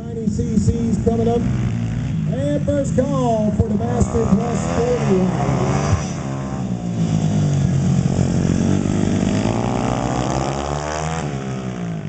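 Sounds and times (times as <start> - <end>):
motorbike engines revving: 0.0 - 12.0.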